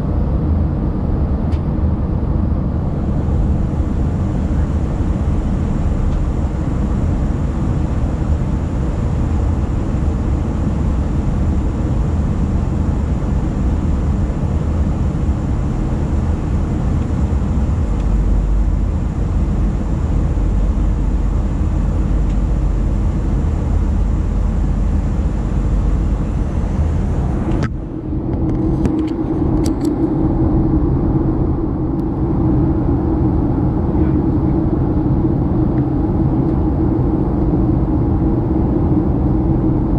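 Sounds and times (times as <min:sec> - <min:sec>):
airplane cabin engine roar: 0:00.0 - 0:39.9
deep steady hum: 0:00.0 - 0:39.9.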